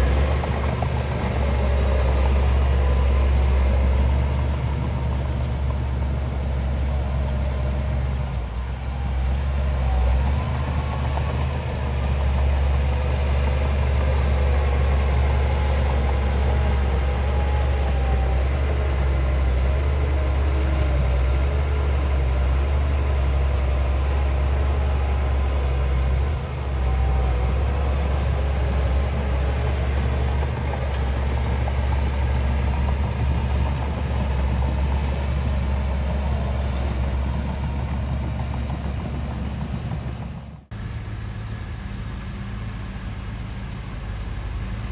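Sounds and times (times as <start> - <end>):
heavy diesel engine rumbling: 0.0 - 44.9.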